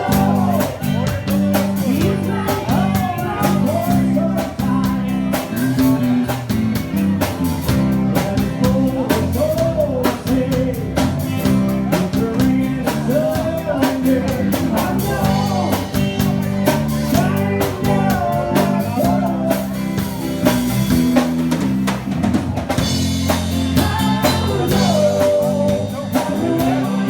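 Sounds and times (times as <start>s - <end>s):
person singing: 0.0s - 6.4s, 7.2s - 20.6s, 23.5s - 27.0s
drum kit: 0.0s - 27.0s
guitar: 0.0s - 27.0s.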